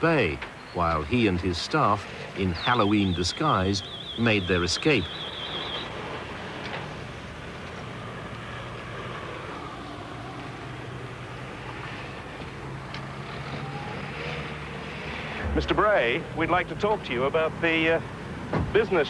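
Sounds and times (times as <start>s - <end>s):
car engines running: 0.0s - 19.0s
street noise: 0.0s - 19.0s.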